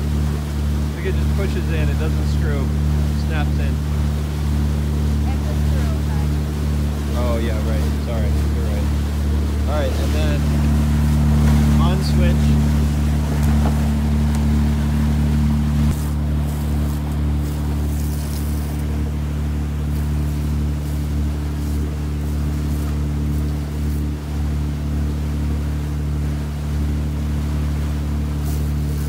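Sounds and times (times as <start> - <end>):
boat engine droning: 0.0 - 29.0
wake washing: 0.0 - 29.0.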